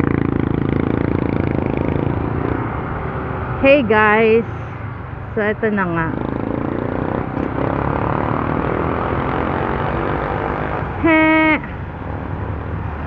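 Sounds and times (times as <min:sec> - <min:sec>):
motorcycle engine and road noise: 0:00.0 - 0:13.0.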